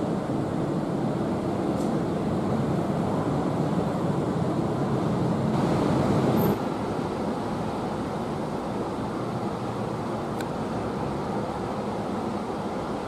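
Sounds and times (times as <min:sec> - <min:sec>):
rumbling outdoor background noise: 0:00.0 - 0:13.0.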